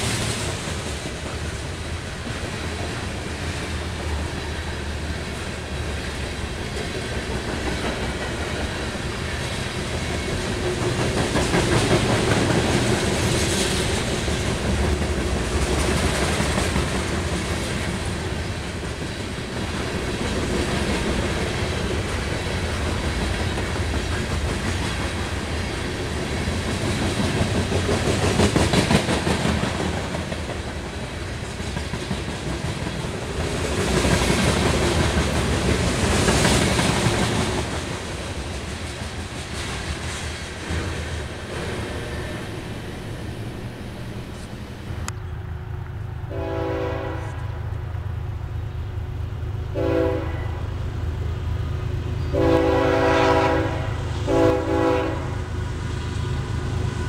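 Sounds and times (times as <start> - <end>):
wheels clacking over rail joints: 0.0 - 46.0
train wheels rumbling on rail: 0.0 - 57.0.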